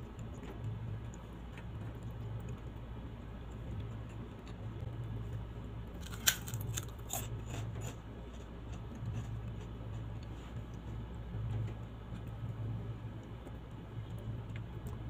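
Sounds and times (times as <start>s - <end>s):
crisp eating crackles: 0.0s - 15.0s
steady low hum: 0.0s - 15.0s.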